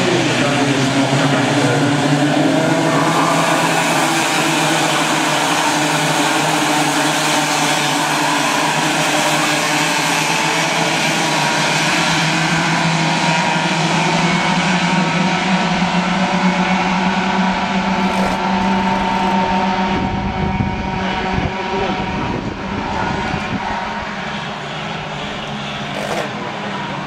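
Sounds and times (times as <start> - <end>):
racing kart engines droning: 0.0 - 27.0.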